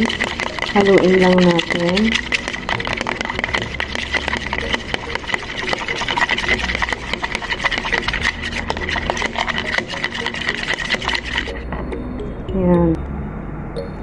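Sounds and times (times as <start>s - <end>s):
utensil whisking eggs in plastic bowl: 0.0s - 11.8s
steady high hum: 0.0s - 14.0s.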